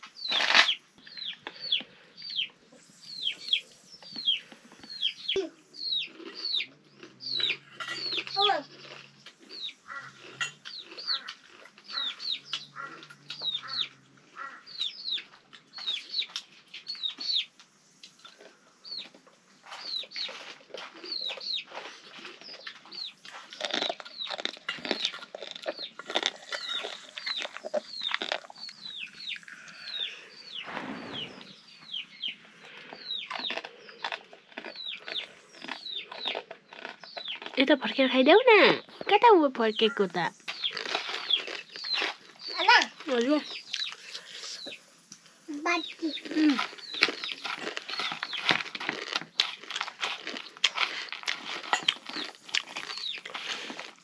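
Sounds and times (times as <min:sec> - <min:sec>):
chickens chirping: 0:00.0 - 0:54.0.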